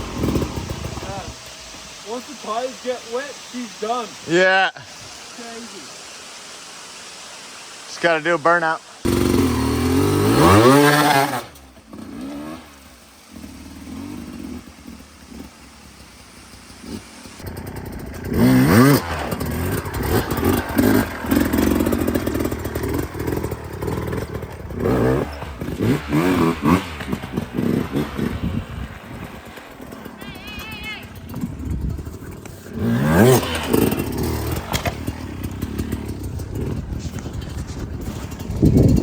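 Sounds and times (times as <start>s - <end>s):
dirt bike engine revving: 0.0s - 4.4s, 9.0s - 39.0s
rear tyre spinning on wet ground: 0.0s - 4.4s, 9.0s - 39.0s.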